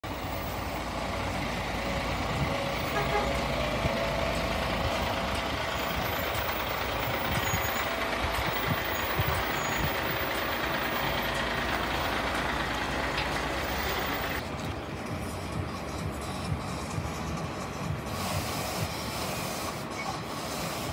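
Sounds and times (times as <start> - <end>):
truck diesel engine running: 0.0 - 20.9.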